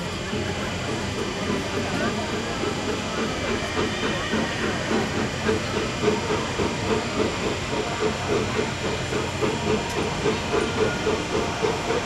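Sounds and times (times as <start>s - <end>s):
steady hiss of steam: 0.0s - 12.0s
steam train running: 0.0s - 12.0s.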